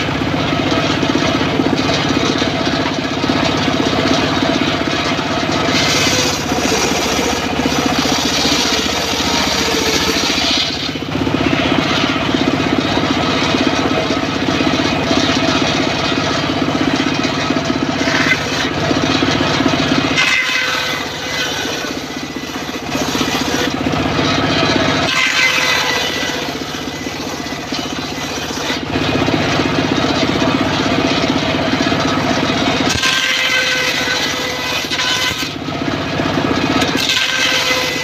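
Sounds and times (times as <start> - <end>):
circular saw cutting wood: 0.0 - 38.0.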